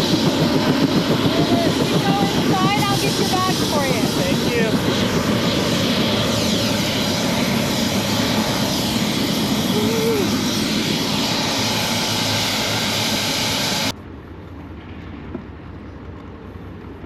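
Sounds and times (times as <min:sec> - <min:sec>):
helicopter engine and rotor noise: 0:00.0 - 0:17.0.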